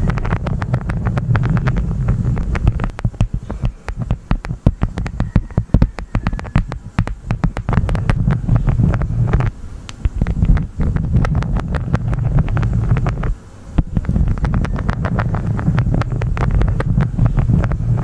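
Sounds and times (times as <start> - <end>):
honeycomb wax crunching: 0.0 - 18.0
wind rumble on microphone: 0.0 - 18.0.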